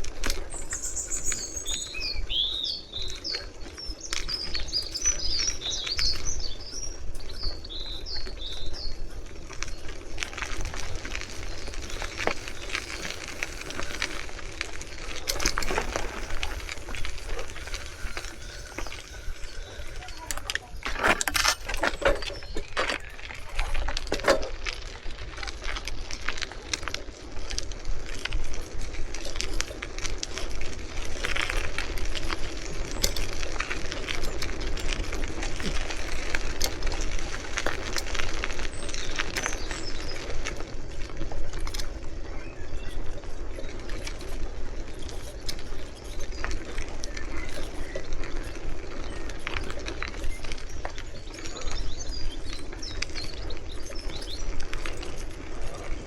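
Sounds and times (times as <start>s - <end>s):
bike rattling and clinking: 0.0s - 56.0s
wind: 0.0s - 56.0s.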